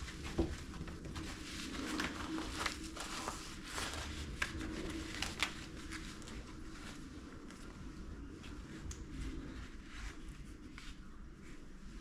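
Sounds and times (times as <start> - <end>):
fabric rustling: 0.0 - 12.0.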